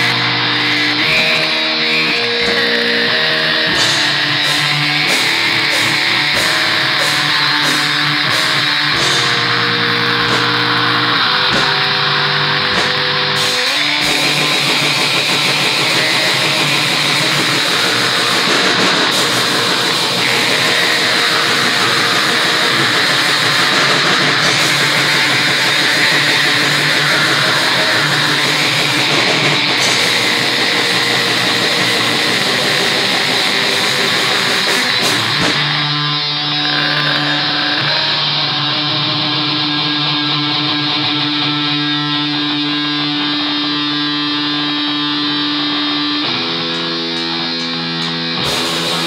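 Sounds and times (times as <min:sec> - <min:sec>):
distorted electric guitar: 0:00.0 - 0:49.0.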